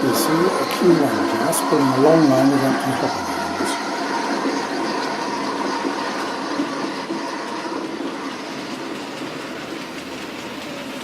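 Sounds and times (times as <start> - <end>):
model train running: 0.0 - 11.0.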